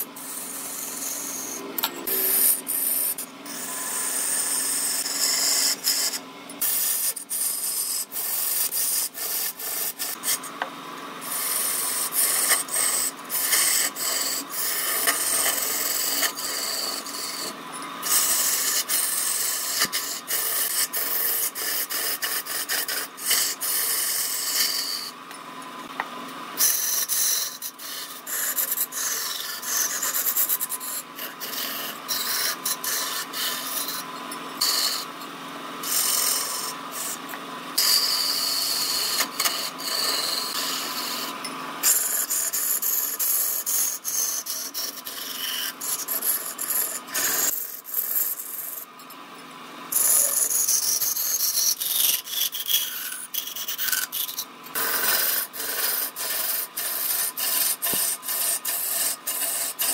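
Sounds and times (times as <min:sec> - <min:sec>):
chisel scraping spinning wood: 0:00.0 - 0:48.9, 0:49.9 - 0:59.9
steady lathe hum: 0:00.0 - 0:48.9, 0:49.9 - 0:59.9.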